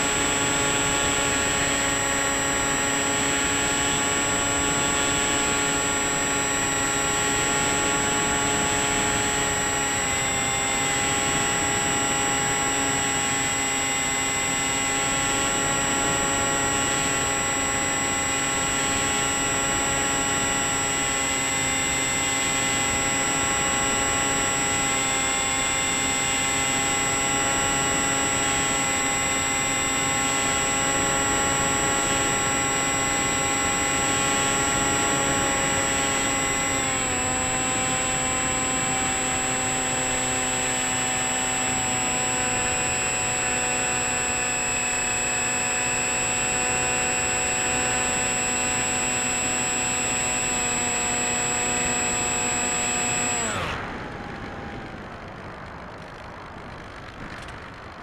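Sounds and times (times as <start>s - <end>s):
electric motor whine: 0.0s - 57.8s.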